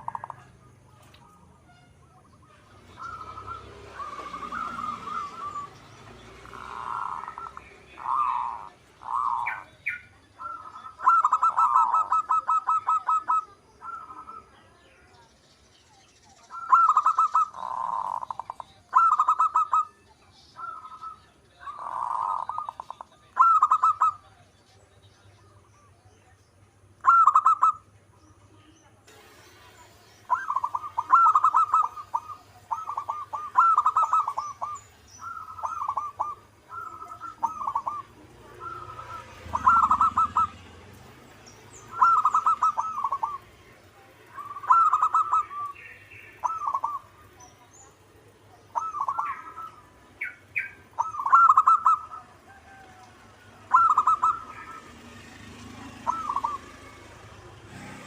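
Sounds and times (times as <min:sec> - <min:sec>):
dove cooing: 0:00.0 - 0:14.6, 0:16.5 - 0:20.0, 0:20.6 - 0:24.4, 0:27.0 - 0:27.8, 0:30.2 - 0:58.0
small birds chirping: 0:00.0 - 0:58.0.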